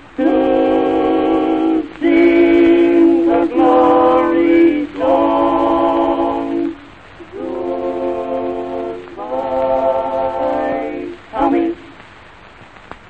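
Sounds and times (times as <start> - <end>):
person singing long held notes: 0.0 - 12.0.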